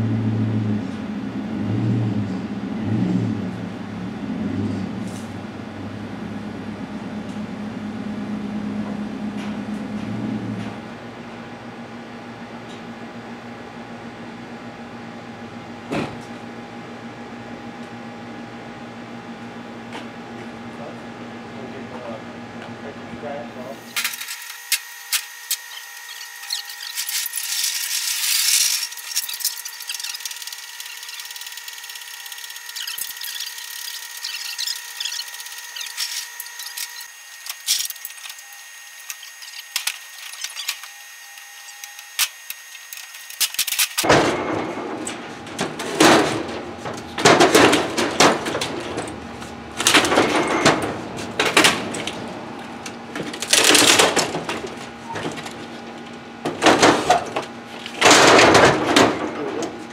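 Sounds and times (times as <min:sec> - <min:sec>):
steady high whine: 0:00.0 - 0:59.9.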